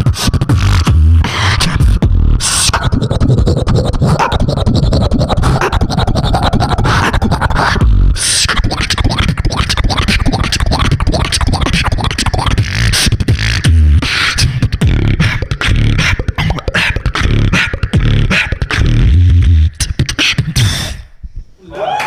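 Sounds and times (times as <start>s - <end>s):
beatboxing into a microphone: 0.0s - 21.5s.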